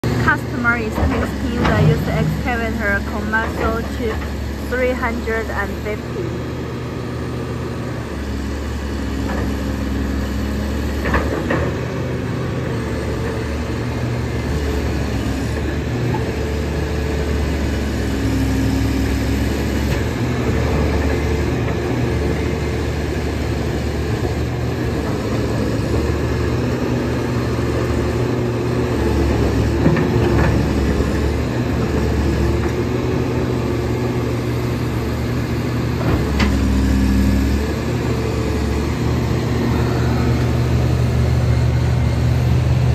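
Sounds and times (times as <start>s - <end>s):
excavator diesel engine: 0.0s - 42.9s.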